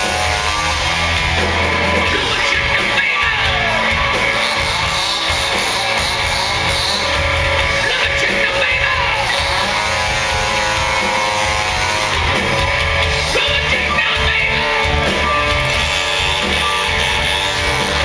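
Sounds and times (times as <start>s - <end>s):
hard rock band playing: 0.0s - 18.0s
shouted singing: 0.0s - 18.0s.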